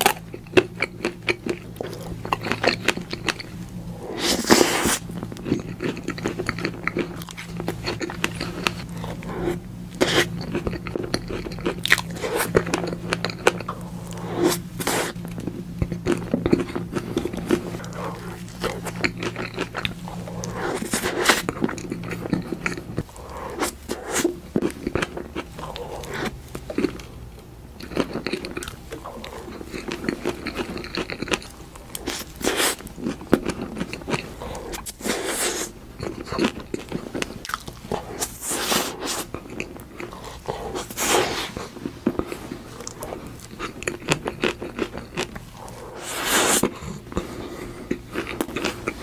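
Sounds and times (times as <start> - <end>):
person chewing and biting cake: 0.0 - 49.0.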